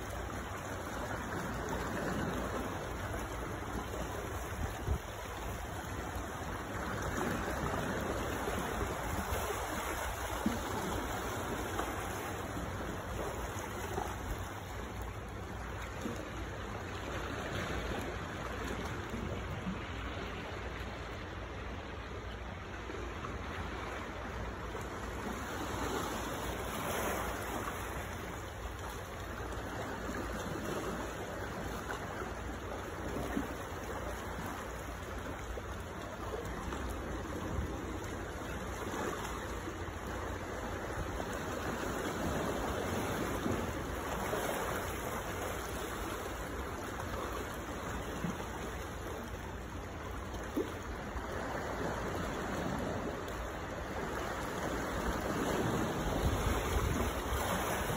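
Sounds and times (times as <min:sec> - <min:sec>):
sea water washing among boulders: 0:00.0 - 0:57.9.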